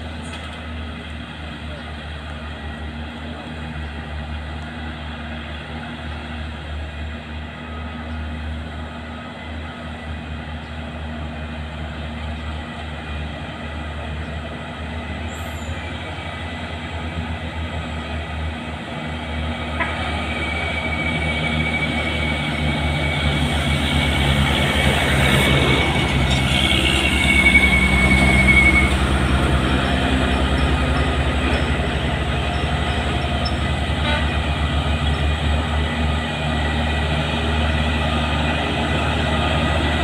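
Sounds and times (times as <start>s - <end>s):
truck diesel engine labouring: 0.0s - 40.0s.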